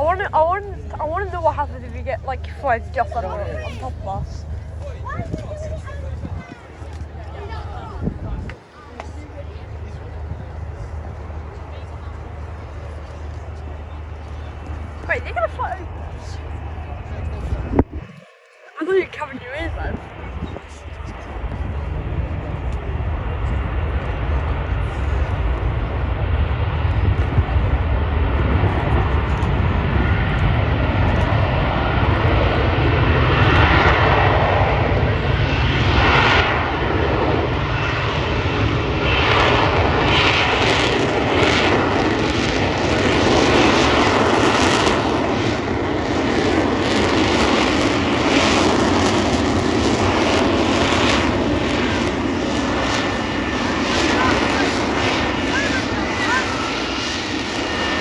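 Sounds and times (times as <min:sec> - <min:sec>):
aircraft engines rumbling overhead: 0:00.0 - 0:58.0.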